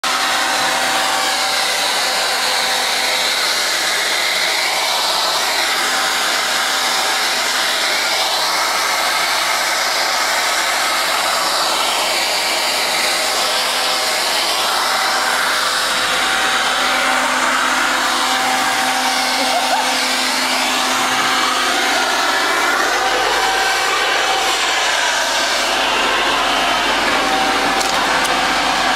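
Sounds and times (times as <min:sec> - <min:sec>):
leaf blower running: 0:00.0 - 0:28.9.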